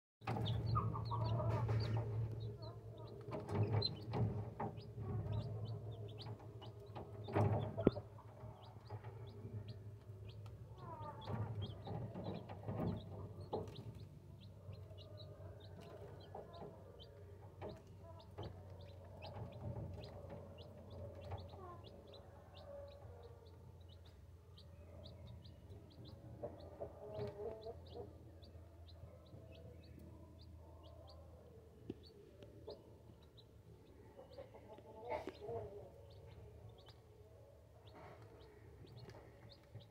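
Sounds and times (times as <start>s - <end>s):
chicks peeping: 0.2s - 39.9s.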